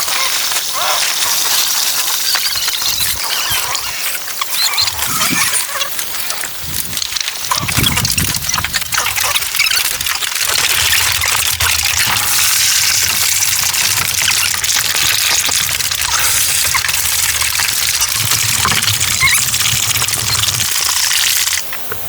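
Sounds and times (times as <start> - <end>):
water rushing: 0.0 - 21.6.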